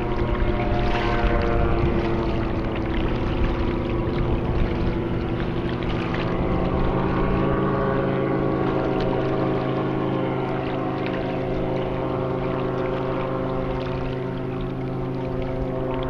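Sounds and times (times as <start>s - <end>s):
airboat engine droning: 0.0s - 16.0s
wind buffeting microphone: 0.0s - 16.0s.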